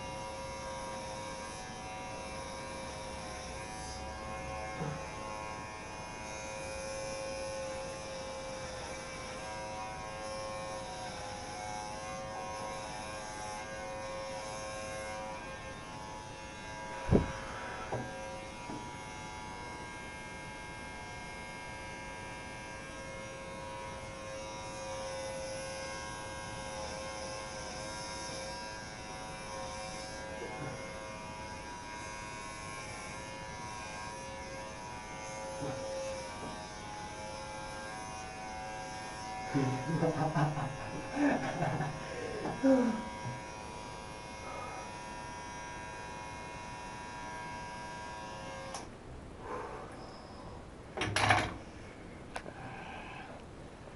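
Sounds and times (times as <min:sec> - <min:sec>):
electric hair clipper buzzing: 0:00.0 - 0:48.9.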